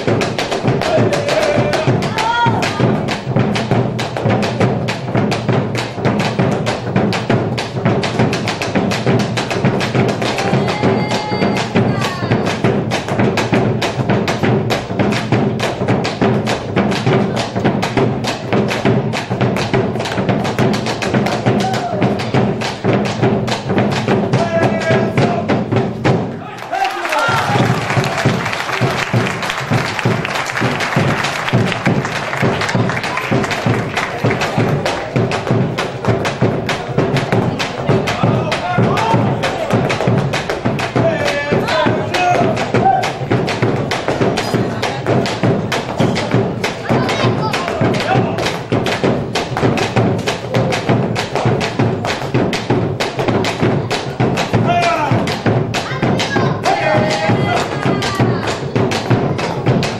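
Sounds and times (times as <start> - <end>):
quick even drumbeat: 0.0 - 26.4, 27.2 - 59.9
folk music with percussive beat: 0.0 - 59.9.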